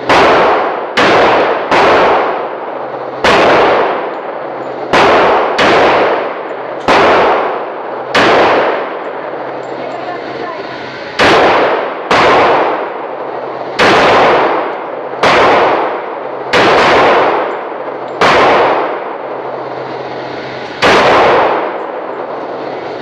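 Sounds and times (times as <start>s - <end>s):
pistol shots echoing indoors: 0.0s - 2.6s, 3.2s - 9.3s, 11.1s - 19.4s, 20.7s - 22.3s.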